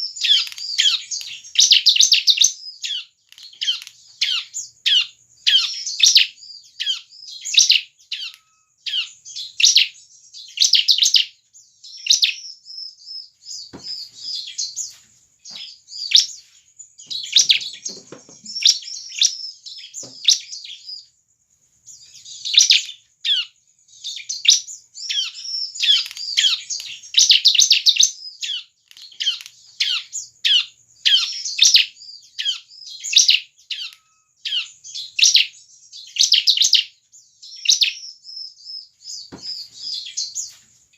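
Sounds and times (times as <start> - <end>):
bird singing sharp high calls: 0.0 - 21.2, 21.9 - 40.6
soft bird twittering: 0.0 - 40.9.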